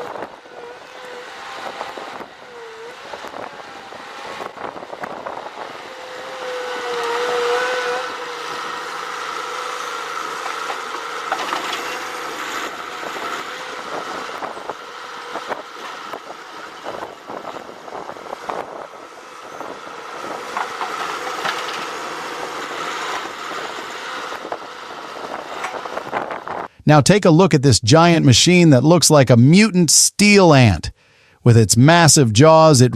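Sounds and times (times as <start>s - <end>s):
heavy machine engine running: 0.0s - 26.7s.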